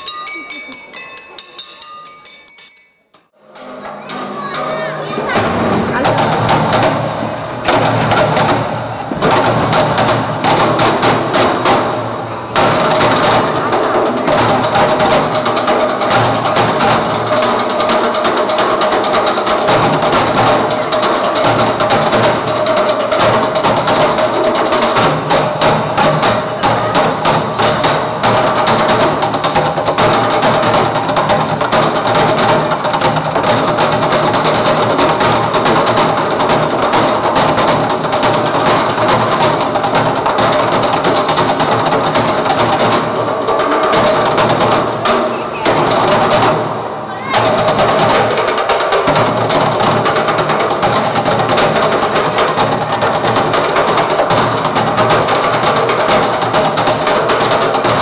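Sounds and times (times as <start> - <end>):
percussion on recycled objects: 0.0 - 58.0.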